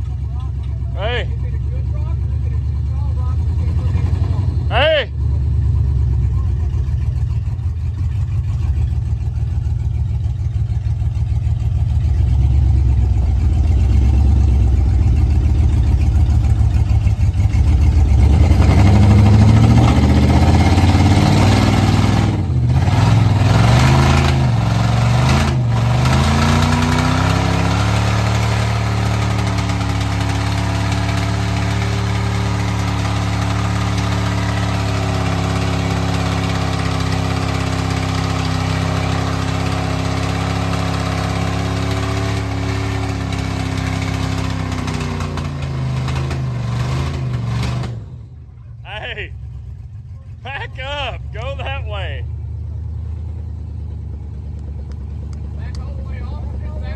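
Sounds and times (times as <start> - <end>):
off-road vehicle engine revving: 0.0 - 56.9.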